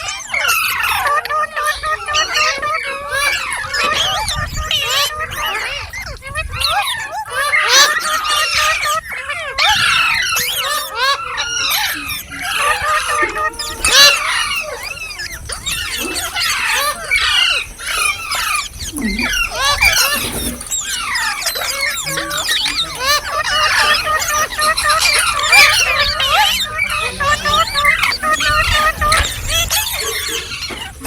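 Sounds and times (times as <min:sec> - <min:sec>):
parrots chirping and squawking: 0:00.0 - 0:31.0.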